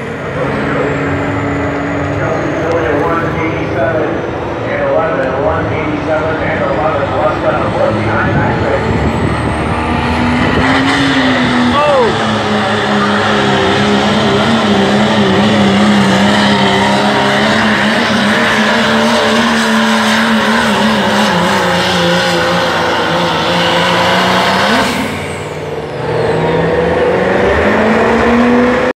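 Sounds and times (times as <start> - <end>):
diesel truck engine at full throttle: 0.0 - 29.0.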